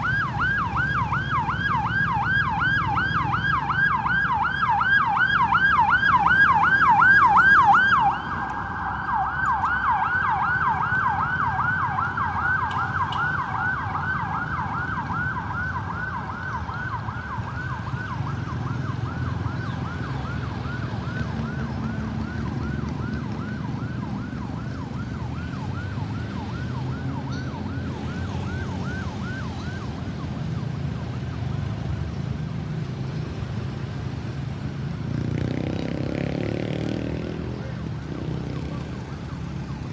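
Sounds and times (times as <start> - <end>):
ambulance siren yelp: 0.0 - 34.8, 36.8 - 39.9
low traffic rumble: 0.0 - 39.9.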